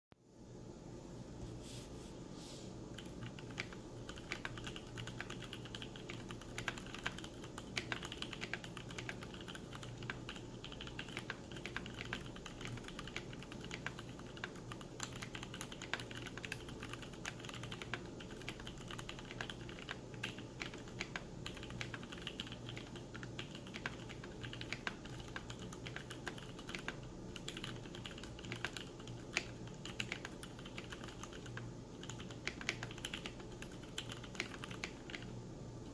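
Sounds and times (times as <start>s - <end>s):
fast keyboard typing: 2.9s - 35.4s.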